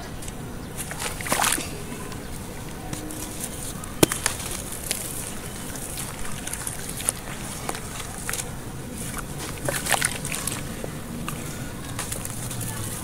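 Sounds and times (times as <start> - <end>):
squelching and sloshing mud: 0.0 - 13.0
gritty crackles: 0.1 - 13.0
small splashes: 0.7 - 13.0.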